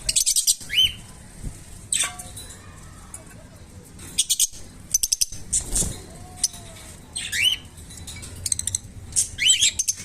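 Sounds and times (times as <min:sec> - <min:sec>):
lovebirds chirping and squawking: 0:00.0 - 0:10.0.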